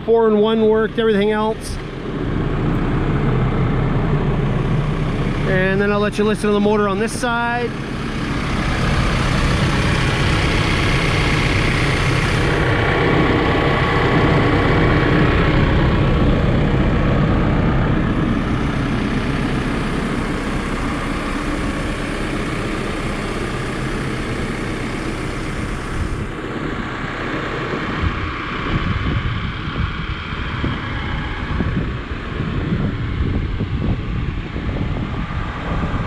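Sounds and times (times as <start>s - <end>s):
diesel engine idling: 0.0s - 36.0s
wind buffeting microphone: 0.0s - 36.0s.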